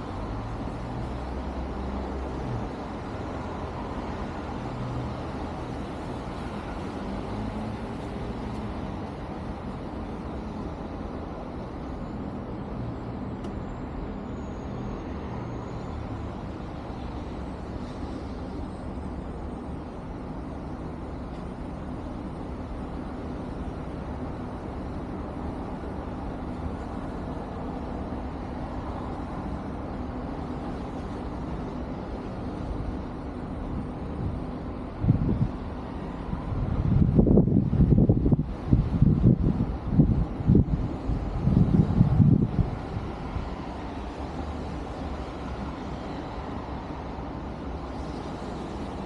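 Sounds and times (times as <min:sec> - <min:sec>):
low rumble of city traffic: 0:00.0 - 0:49.0.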